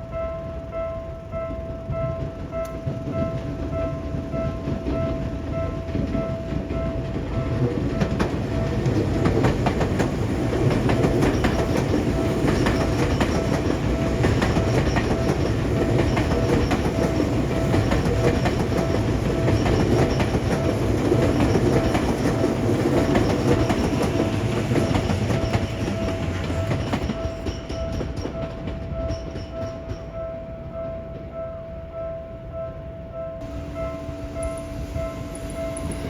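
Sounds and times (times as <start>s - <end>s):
crossing bell ringing: 0.0s - 36.0s
train wheels clattering over rails: 2.0s - 31.3s.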